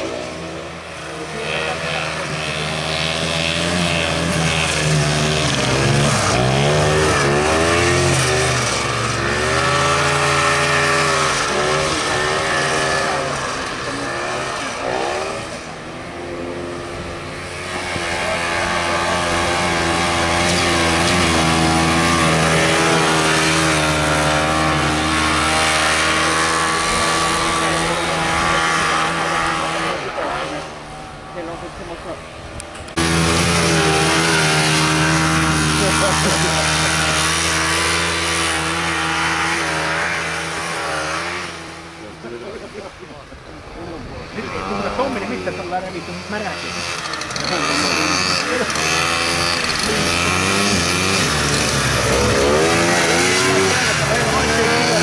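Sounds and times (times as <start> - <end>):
snowmobile engines revving: 0.0 - 55.0.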